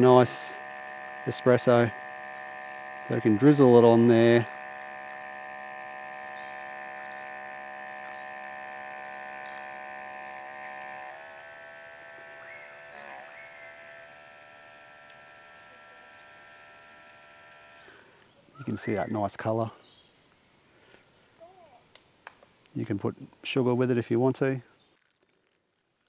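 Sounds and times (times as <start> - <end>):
espresso machine pump humming: 0.0 - 21.7.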